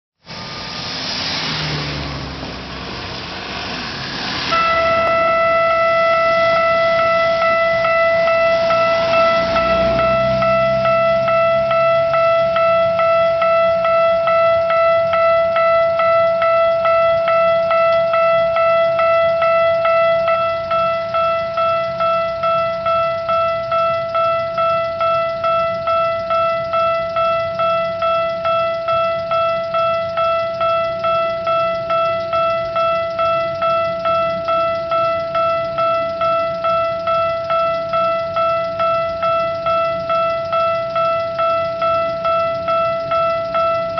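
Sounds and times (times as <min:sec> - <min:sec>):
level crossing bell dinging: 0:04.5 - 0:43.9.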